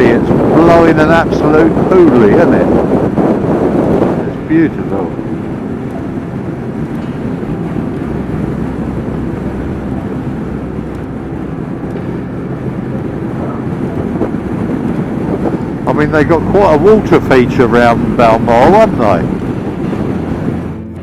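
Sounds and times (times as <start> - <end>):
motorcycle engine drone: 0.0 - 21.0
wind rush: 0.0 - 21.0.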